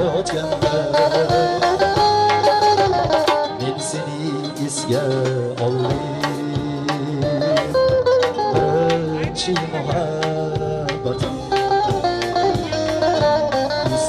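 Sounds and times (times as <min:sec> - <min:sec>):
keyboard synthesizer melody: 0:00.0 - 0:14.0
steady drum beat: 0:00.0 - 0:14.0.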